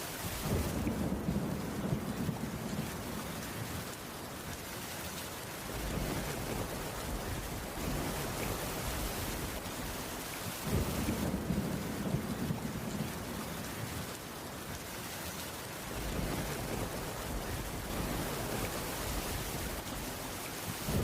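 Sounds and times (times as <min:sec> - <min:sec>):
rain on a wooden roof: 0:00.0 - 0:21.0
thunder rumbling: 0:00.3 - 0:03.8, 0:05.7 - 0:14.2, 0:15.9 - 0:21.0.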